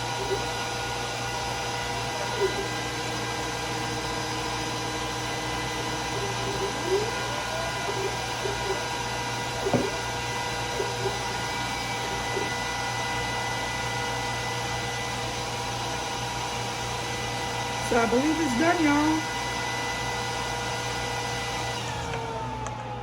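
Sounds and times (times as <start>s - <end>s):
fans whirring: 0.0s - 23.0s
motor whines: 0.0s - 23.0s.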